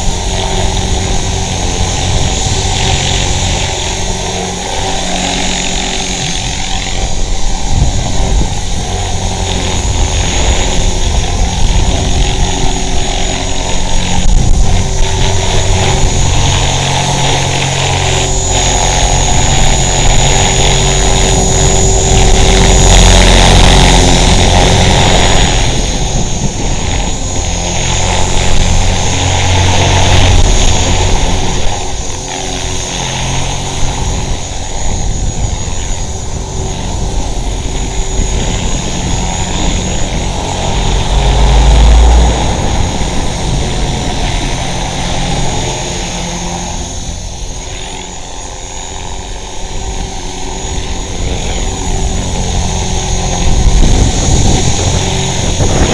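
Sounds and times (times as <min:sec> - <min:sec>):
rc helicopter motor whine: 0:00.0 - 0:55.9
rotor whirring: 0:00.0 - 0:55.9
wind rumbling on microphone: 0:00.0 - 0:55.9.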